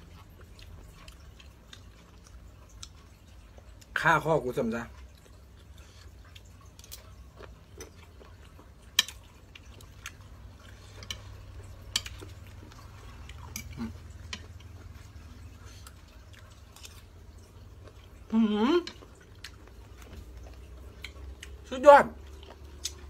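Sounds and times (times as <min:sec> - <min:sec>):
wet eating sounds: 0:00.0 - 0:23.0.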